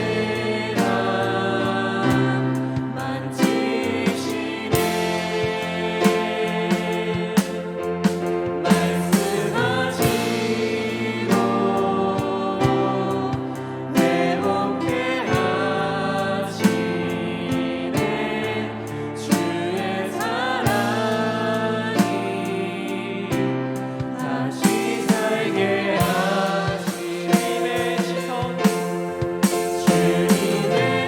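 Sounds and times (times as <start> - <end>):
band playing: 0.0 - 18.6, 24.2 - 31.0
people singing: 0.0 - 31.0
steady drum beat: 0.0 - 31.0.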